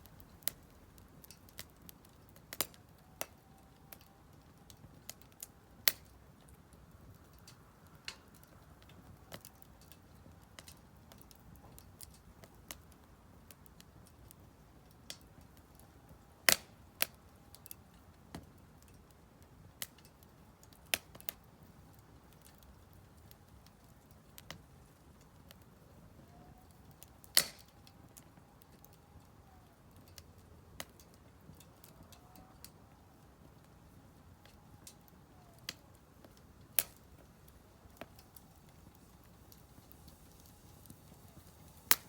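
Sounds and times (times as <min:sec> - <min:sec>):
firewood crackling and popping: 0:00.0 - 0:42.0.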